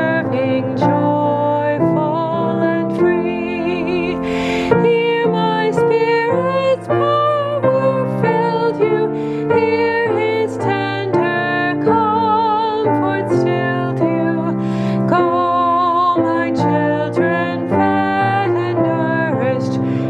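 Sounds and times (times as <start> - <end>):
keyboard chords: 0.0 - 20.0
person singing a hymn: 0.0 - 20.0.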